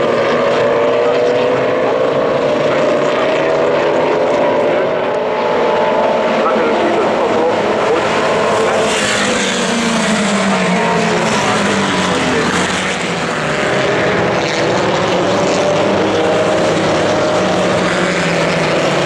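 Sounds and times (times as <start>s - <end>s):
racing cars passing: 0.0s - 19.0s.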